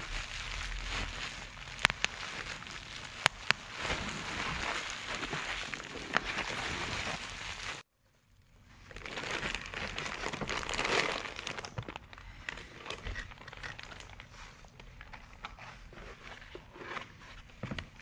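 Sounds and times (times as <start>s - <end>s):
plastic bag crinkling: 0.0s - 7.8s, 8.8s - 17.0s.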